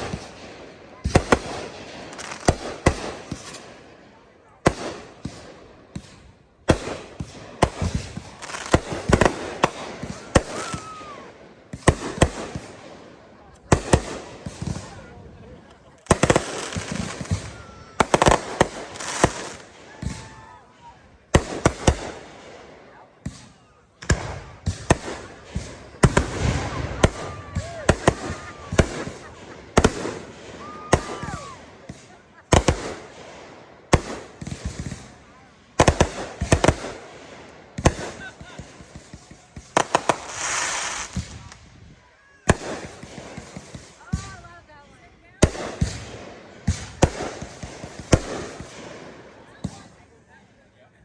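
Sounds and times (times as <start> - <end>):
fireworks bangs: 0.0 - 50.2
fireworks crackling: 0.0 - 51.0.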